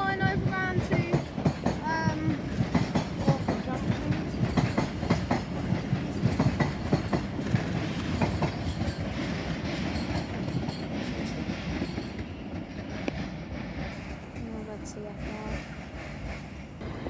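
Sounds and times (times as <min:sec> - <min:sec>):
train rumble: 0:00.0 - 0:17.0
train wheels clattering: 0:00.0 - 0:17.0.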